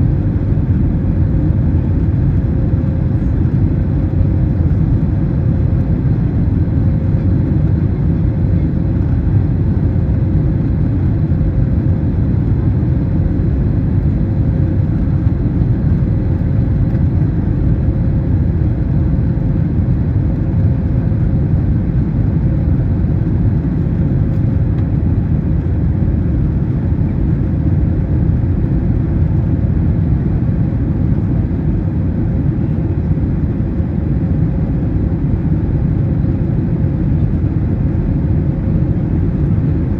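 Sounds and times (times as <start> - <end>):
deep rumble of engines and airflow: 0.0 - 39.9.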